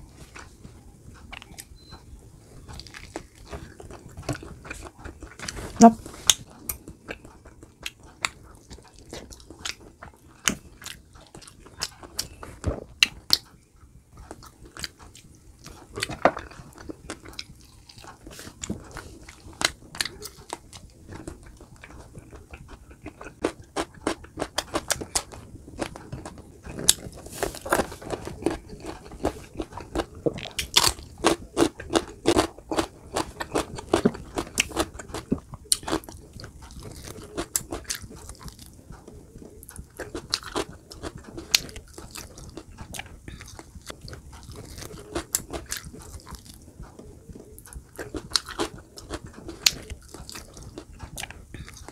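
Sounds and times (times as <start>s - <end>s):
person chewing with crunches: 0.0s - 51.9s.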